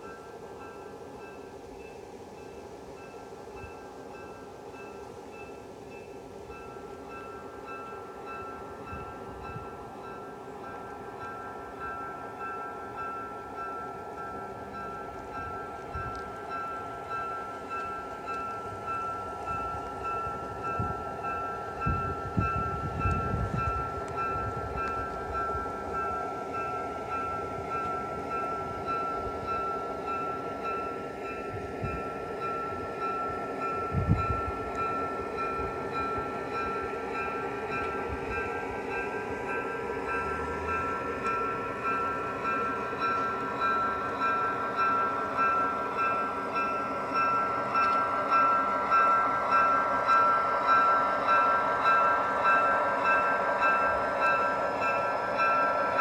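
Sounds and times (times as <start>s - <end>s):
model train diesel engine sound: 0.0s - 56.0s.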